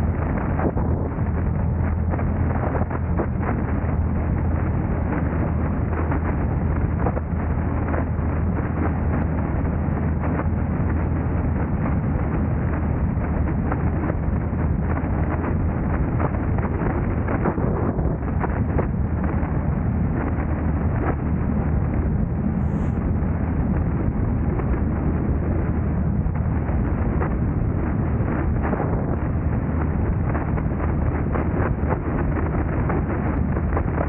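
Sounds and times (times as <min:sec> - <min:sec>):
car road and wind rumble: 0:00.0 - 0:34.0.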